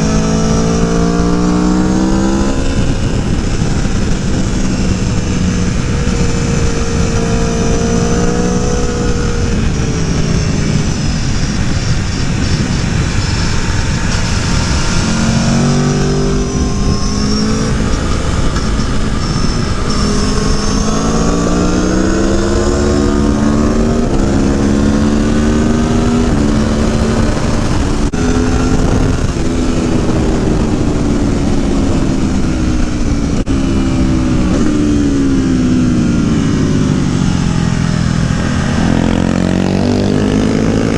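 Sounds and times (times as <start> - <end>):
heavy wind noise: 0.0 - 40.9
motorcycle engine revving: 0.0 - 40.9.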